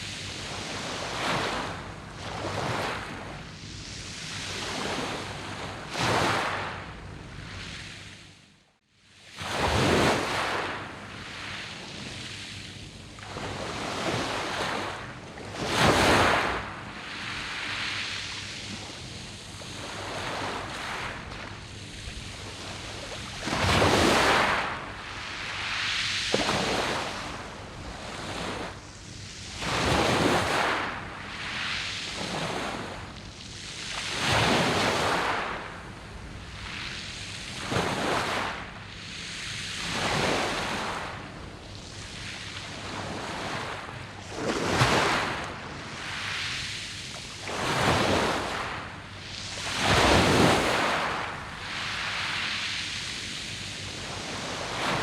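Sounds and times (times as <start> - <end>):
waves breaking on pebble beach: 0.0 - 3.1, 4.4 - 6.8, 9.4 - 12.2, 13.3 - 28.8, 29.5 - 33.0, 34.0 - 38.7, 39.8 - 41.4, 42.0 - 46.6, 47.3 - 55.0.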